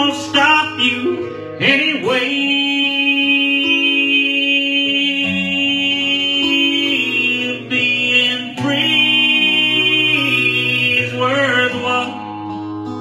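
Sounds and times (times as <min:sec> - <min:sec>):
acoustic guitar strumming: 0:00.0 - 0:13.0
man singing country ballad: 0:00.0 - 0:13.0.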